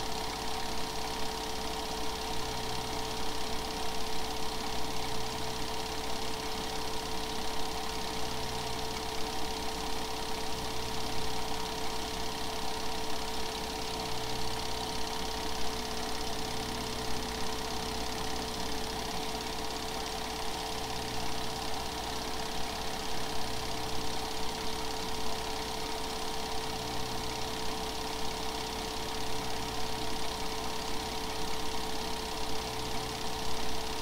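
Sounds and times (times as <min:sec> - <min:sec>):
film projector whirring: 0:00.0 - 0:34.0.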